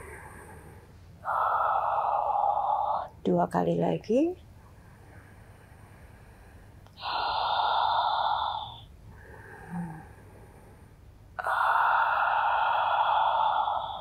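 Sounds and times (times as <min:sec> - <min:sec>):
woman breathing slowly: 0:00.0 - 0:03.2, 0:04.7 - 0:14.0.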